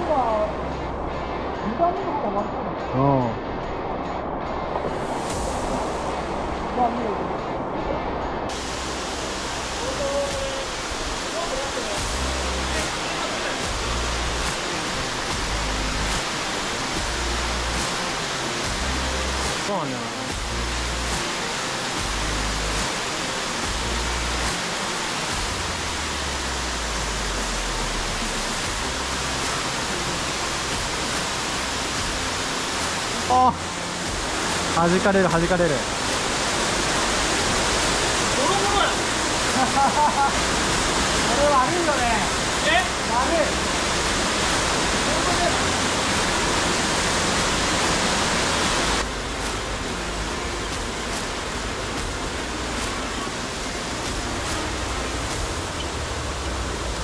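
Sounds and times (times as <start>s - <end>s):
stream water over rocks: 0.0s - 57.0s.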